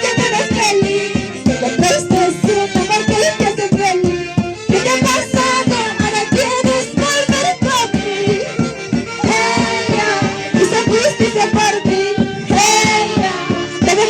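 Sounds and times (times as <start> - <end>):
folk orchestra playing lively tune: 0.0 - 14.0.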